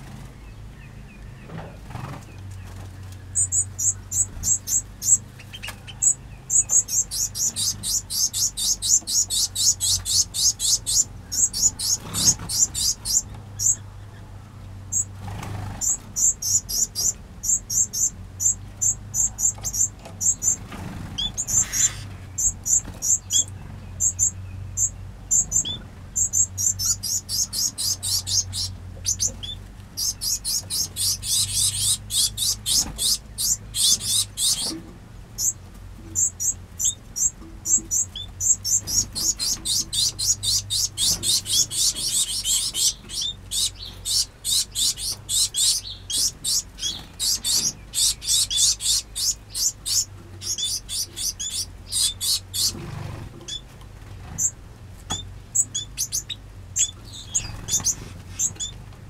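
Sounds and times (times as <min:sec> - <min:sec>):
finches chirping: 0:00.0 - 0:14.3, 0:14.9 - 0:58.8.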